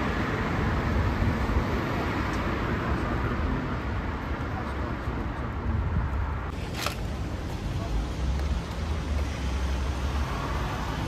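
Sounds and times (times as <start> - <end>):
cars passing: 0.0 - 11.0.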